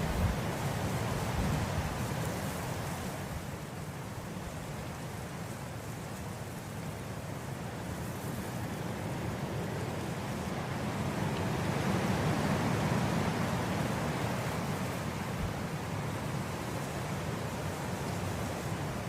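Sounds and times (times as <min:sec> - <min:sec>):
wind blowing through grass: 0:00.0 - 0:19.0.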